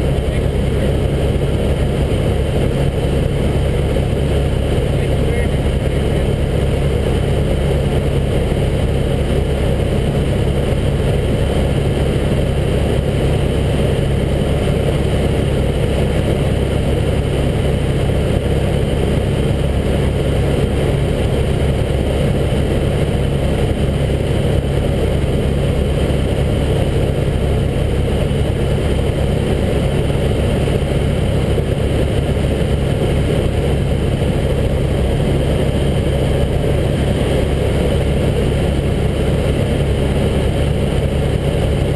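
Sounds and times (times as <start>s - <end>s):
helicopter engine and rotor drone: 0.0s - 41.9s.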